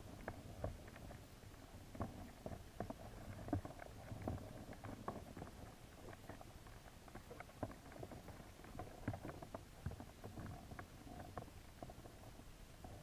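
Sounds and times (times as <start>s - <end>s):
faint clicks and taps: 0.1s - 12.2s.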